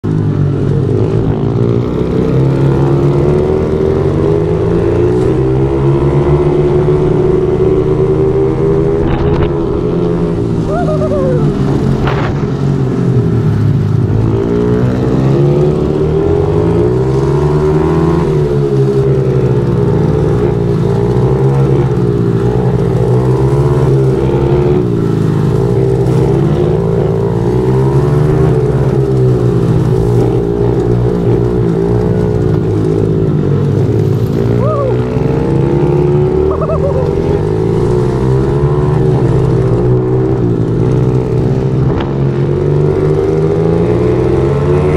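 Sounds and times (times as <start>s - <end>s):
motorbike engine revving: 0.0s - 44.9s.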